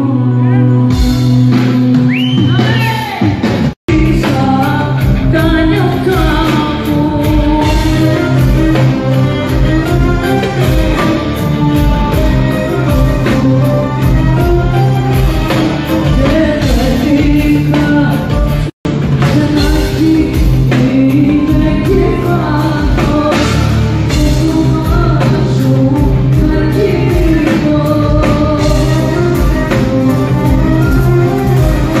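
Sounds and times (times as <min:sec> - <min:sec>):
live band music: 0:00.0 - 0:32.0
woman singing: 0:02.5 - 0:32.0.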